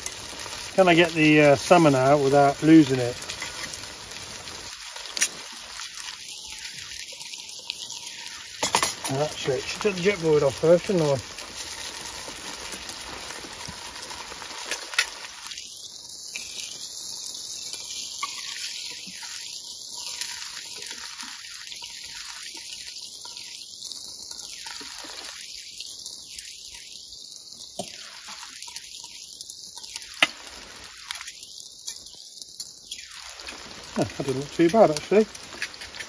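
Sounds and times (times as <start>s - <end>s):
rain hiss: 0.0s - 36.0s.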